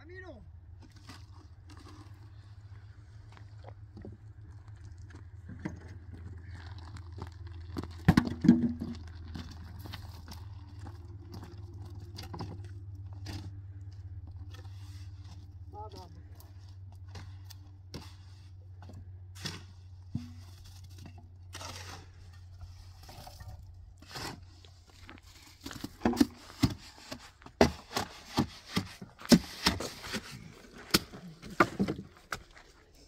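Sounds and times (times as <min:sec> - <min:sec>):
low steady hum: 0:00.4 - 0:33.0.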